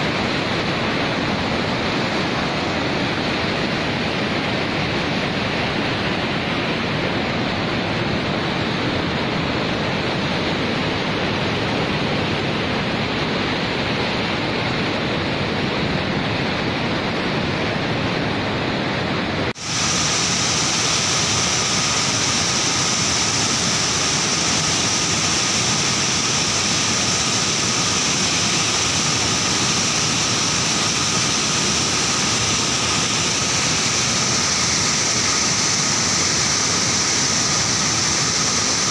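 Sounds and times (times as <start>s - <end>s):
faint steady whine: 0.0s - 38.9s
rushing floodwater: 0.0s - 38.9s.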